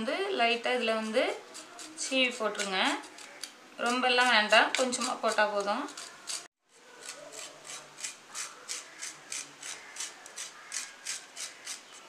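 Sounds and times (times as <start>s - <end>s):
lemon peel grating: 0.8s - 12.0s.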